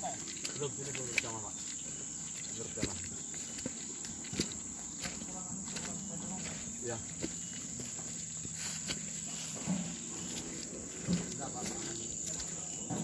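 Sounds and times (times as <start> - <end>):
footsteps through grass: 0.0 - 13.0
insects droning: 0.0 - 13.0.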